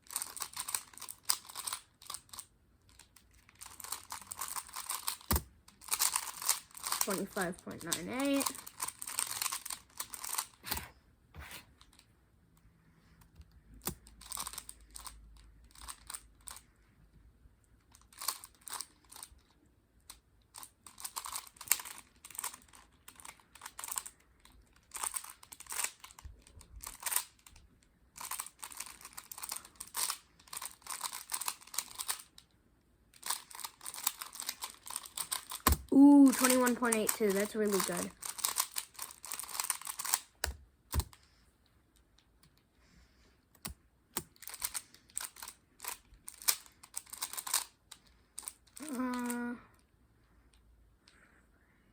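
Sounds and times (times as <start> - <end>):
plastic puzzle cube clicking: 0.0 - 10.9, 13.2 - 16.6, 17.9 - 27.6, 28.2 - 32.5, 33.1 - 41.3, 43.5 - 49.4.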